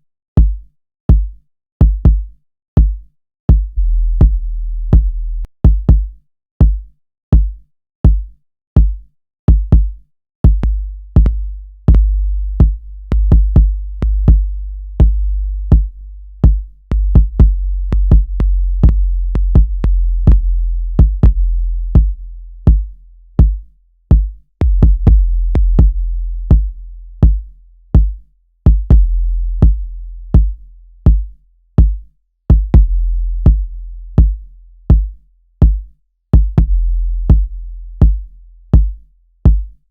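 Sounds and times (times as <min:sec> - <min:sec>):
electronic kick drum: 0:00.4 - 0:39.8.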